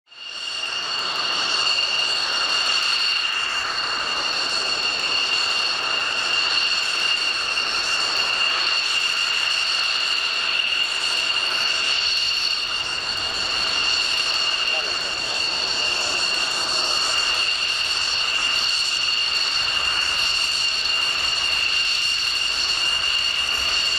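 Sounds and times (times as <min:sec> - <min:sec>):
jet engine whine: 0:00.1 - 0:23.9.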